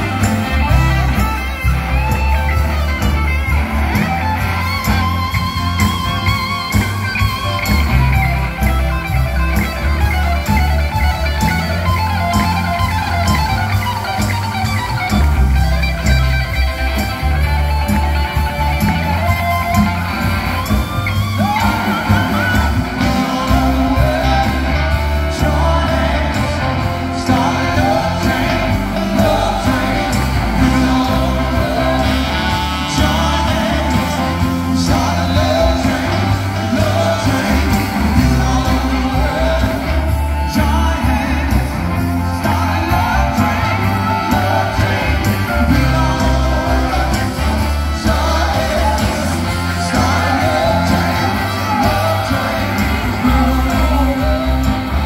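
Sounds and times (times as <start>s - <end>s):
live band through pa system: 0.0s - 55.0s.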